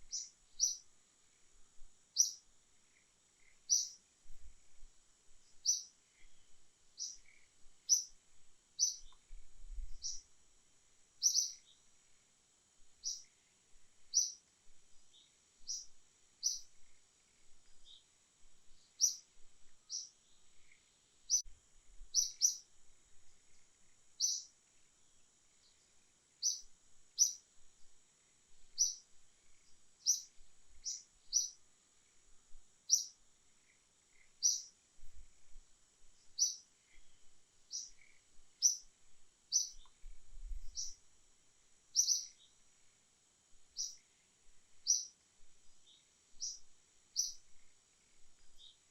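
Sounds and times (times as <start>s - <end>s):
small bird chirping: 0.0s - 10.4s, 11.2s - 12.2s, 12.8s - 41.1s, 41.8s - 43.0s, 43.6s - 48.9s
faint high-pitched hiss: 0.0s - 48.9s.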